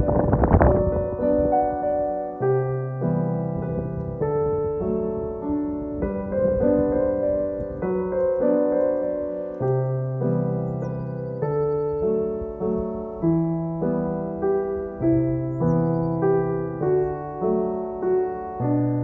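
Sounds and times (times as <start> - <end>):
slow gentle piano chords: 0.0 - 19.0.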